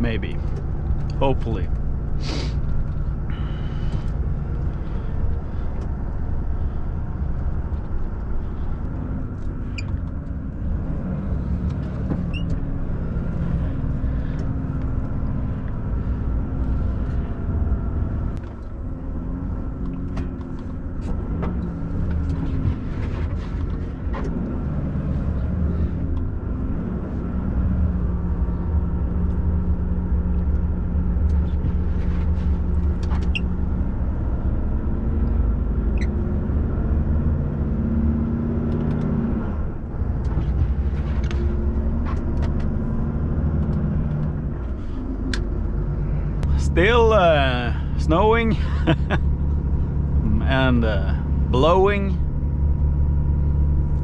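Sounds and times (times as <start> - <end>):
truck engine from inside cab: 0.0 - 54.0.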